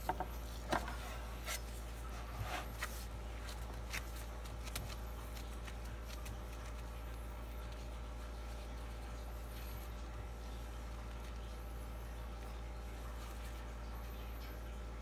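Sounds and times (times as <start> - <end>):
steady low hum: 0.0 - 15.0
gloved hands handling meat: 0.4 - 13.7.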